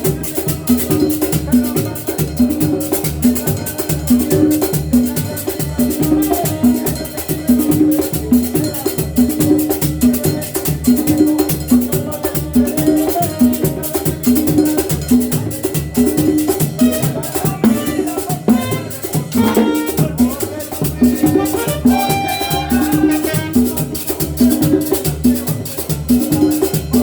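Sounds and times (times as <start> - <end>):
hand percussion: 0.0 - 27.0
upbeat latin dance music: 0.0 - 27.0.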